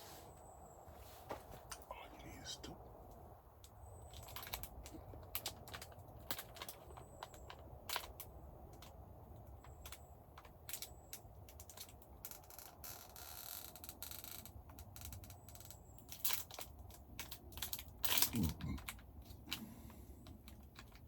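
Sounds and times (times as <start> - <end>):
rustle: 0.0 - 21.0
faint clicks and crackles: 2.8 - 21.0.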